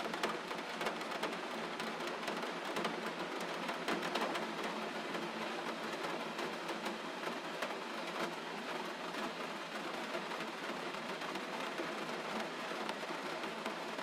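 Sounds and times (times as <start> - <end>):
faint taps of raindrops: 0.0 - 14.0
gentle rain falling: 0.0 - 14.0.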